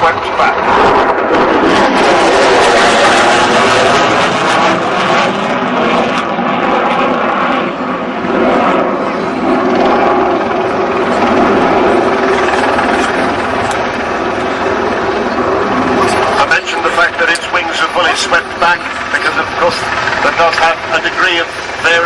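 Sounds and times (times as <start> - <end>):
loud jet noise: 0.0 - 22.0.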